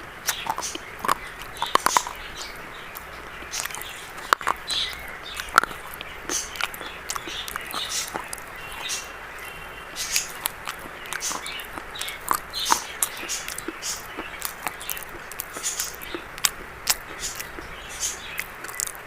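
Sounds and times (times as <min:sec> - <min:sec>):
chalk crunching and snapping: 0:02.9 - 0:19.0.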